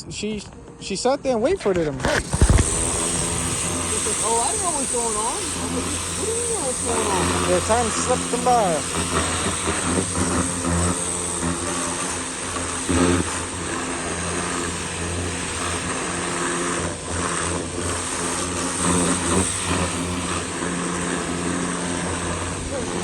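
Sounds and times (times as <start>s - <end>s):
pressure washer engine running: 1.7s - 23.0s
high-pressure water spray hiss: 2.1s - 23.0s.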